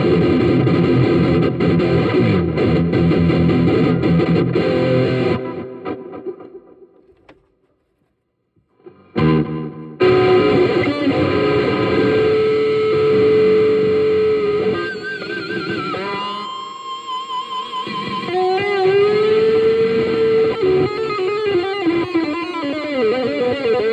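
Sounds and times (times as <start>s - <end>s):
distorted electric guitar: 0.0s - 7.3s, 8.8s - 23.9s.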